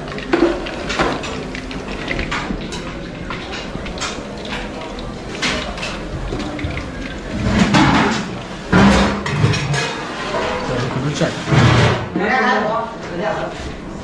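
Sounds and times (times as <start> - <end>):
utensils clattering against pans: 0.0 - 13.9.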